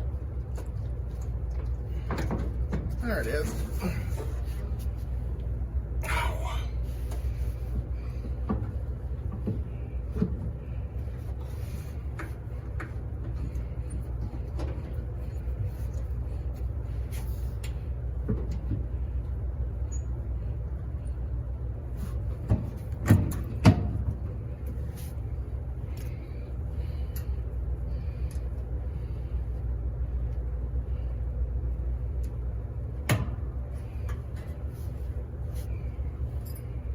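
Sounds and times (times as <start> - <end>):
low hum of machines running: 0.0 - 36.9.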